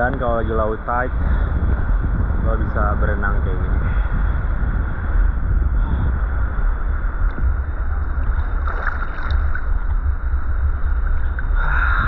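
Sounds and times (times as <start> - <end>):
low rumble of water on microphone: 0.0 - 12.0
muffled seawater sloshing: 2.3 - 12.0.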